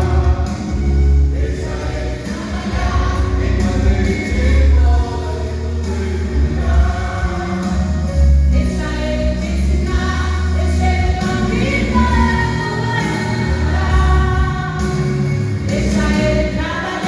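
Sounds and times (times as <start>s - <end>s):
group singing gospel song: 0.0s - 17.0s
instrumental accompaniment with bass: 0.0s - 17.0s.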